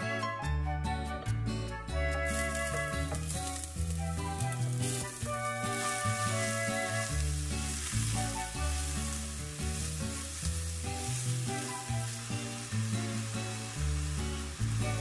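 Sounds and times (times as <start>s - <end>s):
background music with bass: 0.0s - 15.0s
vegetables sizzling in a pan: 2.1s - 15.0s.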